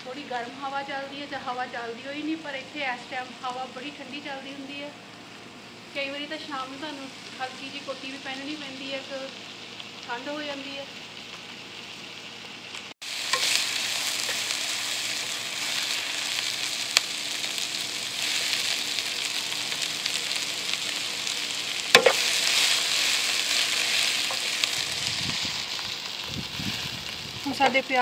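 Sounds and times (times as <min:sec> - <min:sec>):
onions sizzling in a pan: 0:00.0 - 0:28.0.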